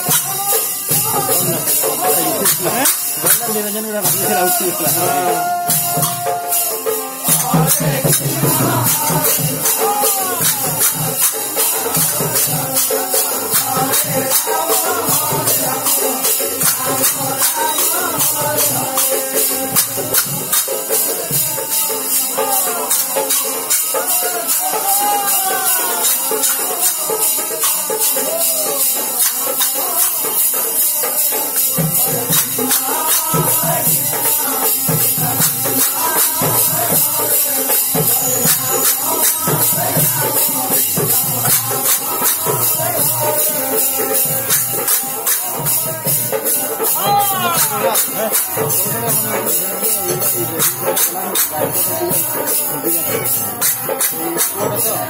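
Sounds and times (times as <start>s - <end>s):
drum: 0.0s - 55.0s
group singing: 0.0s - 55.0s
hand cymbals clashing: 0.0s - 55.0s.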